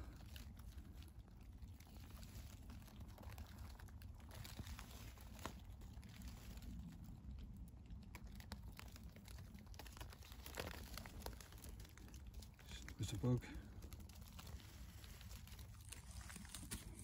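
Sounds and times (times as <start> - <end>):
leaves and twigs rustling: 0.0 - 17.0.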